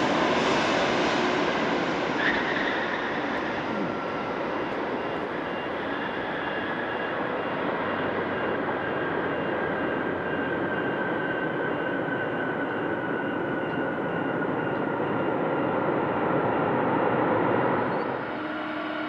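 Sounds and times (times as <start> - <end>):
jet engines roaring and whining: 0.0 - 18.6.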